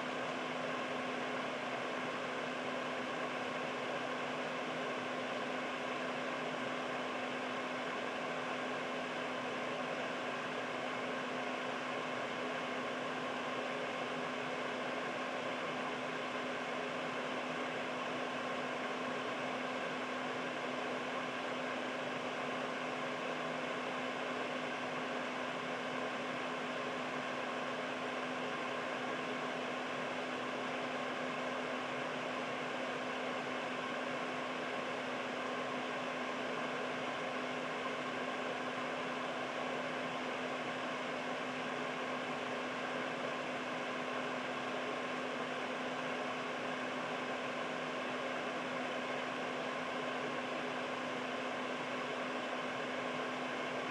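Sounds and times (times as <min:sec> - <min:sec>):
air purifier fan running: 0:00.0 - 0:53.9.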